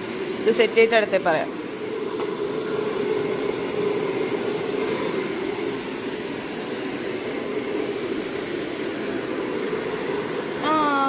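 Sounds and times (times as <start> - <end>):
fan rushing air with hum: 0.0 - 11.0.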